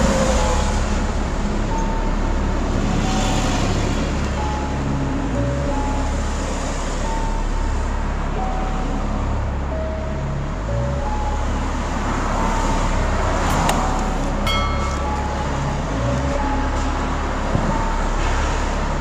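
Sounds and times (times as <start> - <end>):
low engine drone: 0.0 - 19.0
road noise: 0.0 - 19.0.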